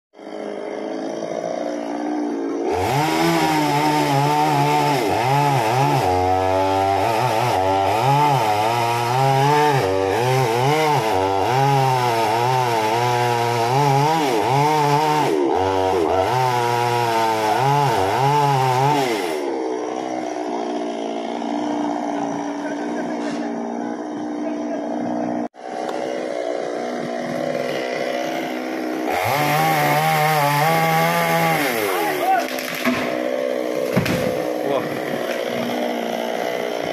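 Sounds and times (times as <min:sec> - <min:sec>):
chainsaw cutting wood: 0:00.2 - 0:36.9.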